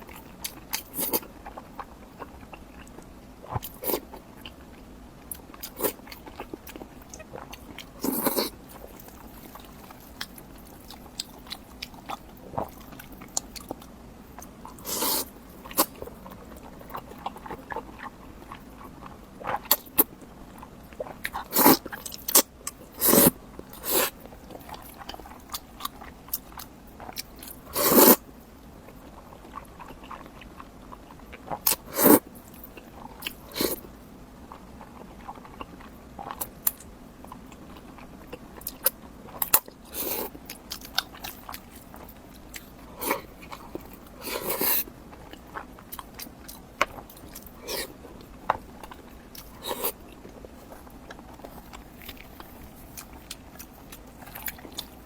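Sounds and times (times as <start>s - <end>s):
soft chewing: 0.0s - 55.0s.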